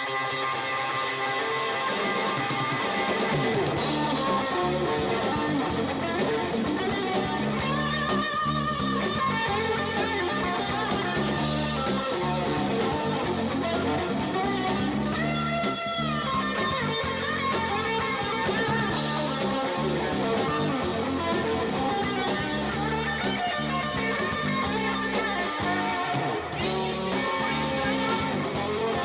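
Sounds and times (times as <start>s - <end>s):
plucked and strummed guitar: 0.0s - 29.0s
low bass notes: 3.6s - 29.0s.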